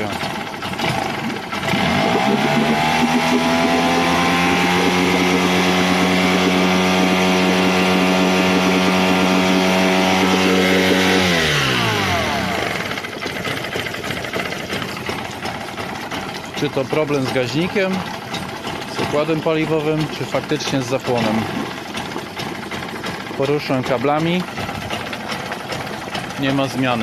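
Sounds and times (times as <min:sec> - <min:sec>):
outboard engine running: 0:00.0 - 0:27.0.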